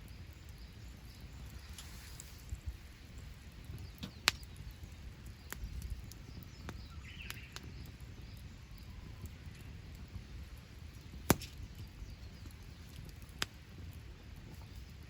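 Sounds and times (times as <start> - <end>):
sharp fire pops: 0.0 - 15.0
wood fire crackling: 0.0 - 15.0.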